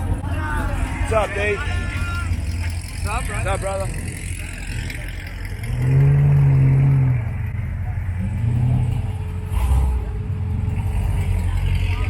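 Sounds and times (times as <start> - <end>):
idling engines rumble: 0.0 - 12.0
car engine revving: 2.3 - 12.0.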